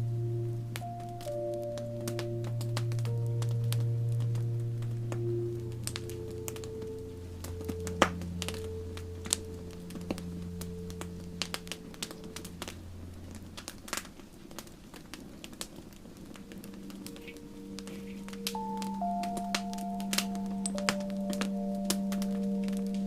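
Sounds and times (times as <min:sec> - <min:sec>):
campfire crackling: 0:00.0 - 0:23.0
soft ambient music: 0:00.0 - 0:23.0
burning wood popping: 0:00.8 - 0:23.0.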